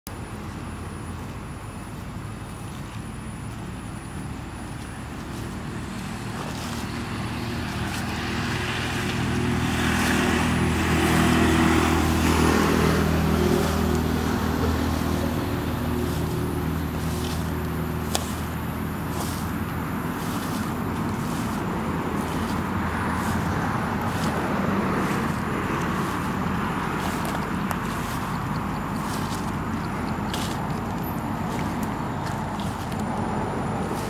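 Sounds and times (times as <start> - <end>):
vehicle engine running: 0.1 - 34.0.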